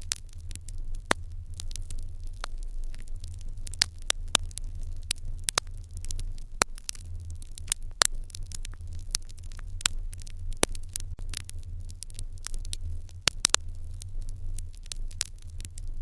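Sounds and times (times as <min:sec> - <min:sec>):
fire crackling and popping: 0:00.0 - 0:16.0
low steady rumble: 0:00.0 - 0:16.0.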